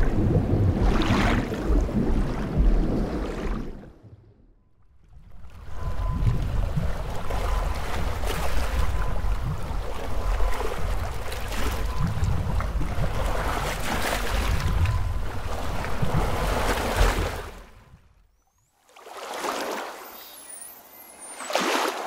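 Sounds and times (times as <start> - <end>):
underwater rumble of surging water: 0.0 - 18.0.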